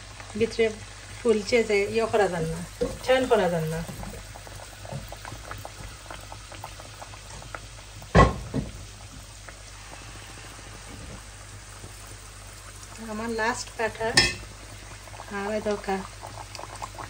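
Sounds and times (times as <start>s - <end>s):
fritters deep-frying in oil: 0.0s - 17.0s.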